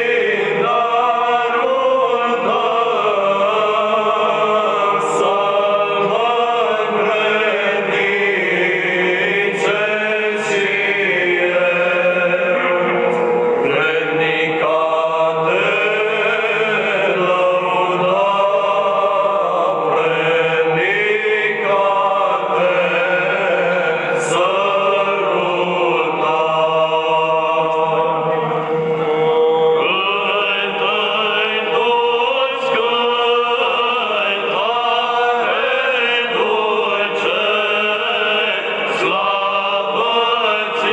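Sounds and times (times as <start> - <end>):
choir singing a chant-like hymn: 0.0 - 40.9.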